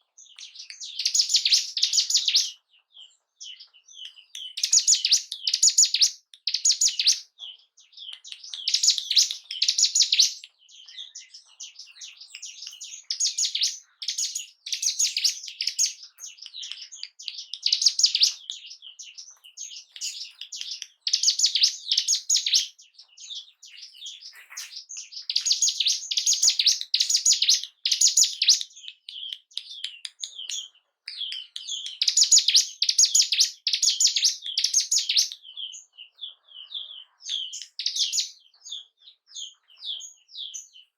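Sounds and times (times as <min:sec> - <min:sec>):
bird chattering chirps: 0:00.0 - 0:40.9.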